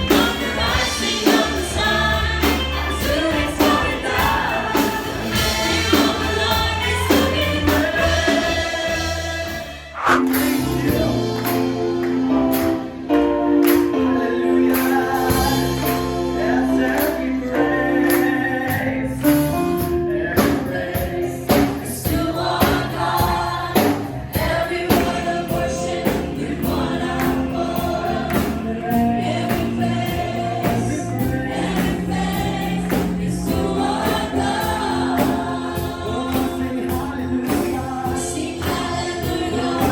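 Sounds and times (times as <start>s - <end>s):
band with drums: 0.0s - 12.9s, 18.1s - 39.9s
choir and congregation singing: 0.0s - 39.9s.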